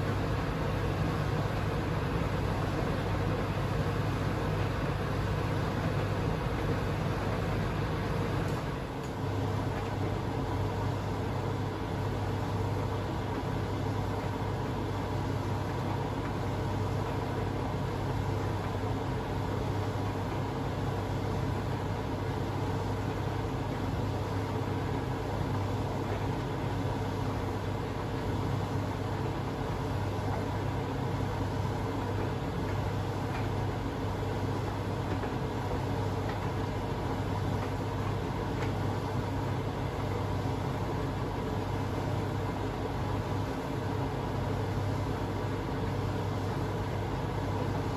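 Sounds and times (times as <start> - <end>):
washing machine hum: 0.0 - 47.9.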